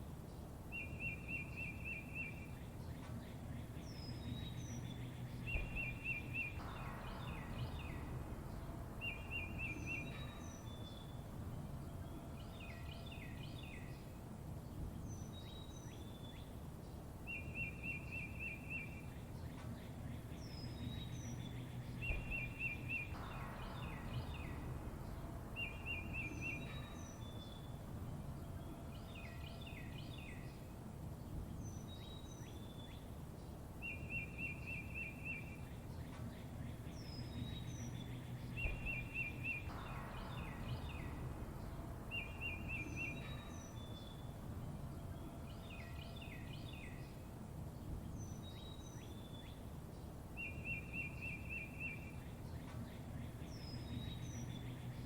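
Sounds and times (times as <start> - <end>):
low background rumble: 0.0 - 55.0
birds chirping and trilling: 0.3 - 55.0.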